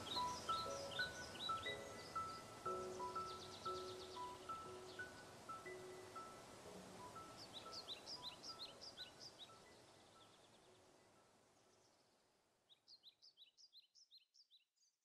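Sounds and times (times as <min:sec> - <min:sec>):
faint bird chirps: 0:00.0 - 0:06.4, 0:07.0 - 0:15.0
soft background music: 0:00.0 - 0:12.4.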